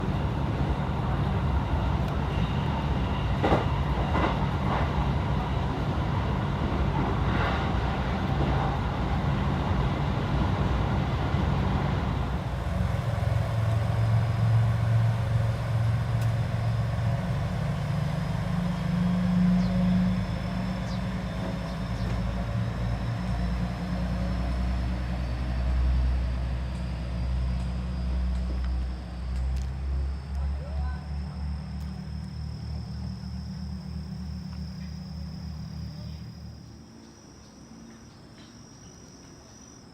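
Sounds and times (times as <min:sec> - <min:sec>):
moving vehicle rumble: 0:00.0 - 0:37.1.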